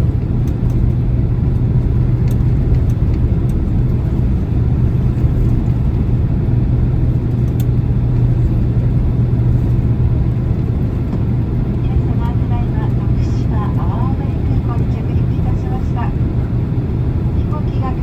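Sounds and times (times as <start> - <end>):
aircraft cabin rumble and hum: 0.0 - 18.0.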